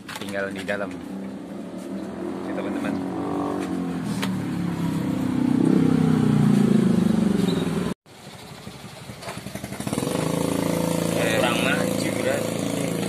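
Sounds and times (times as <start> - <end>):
motorcycle engine running: 1.1 - 13.0.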